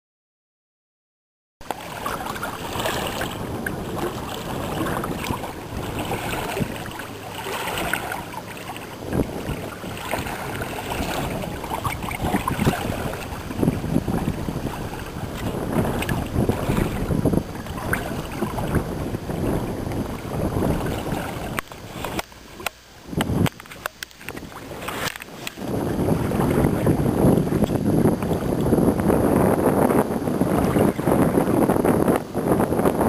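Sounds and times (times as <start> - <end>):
water rushing along hull: 1.6 - 33.0
wind buffeting microphone: 1.6 - 33.0.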